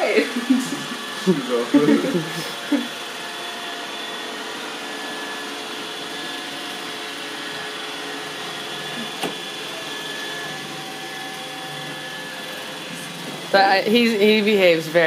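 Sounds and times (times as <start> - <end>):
robot vacuum whirring: 0.0 - 15.0.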